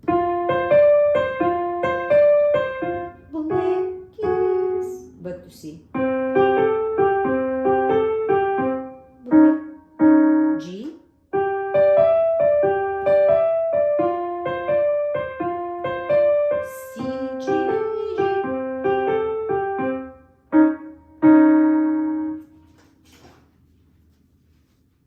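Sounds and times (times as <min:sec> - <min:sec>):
piano melody: 0:00.0 - 0:05.3, 0:05.9 - 0:22.8.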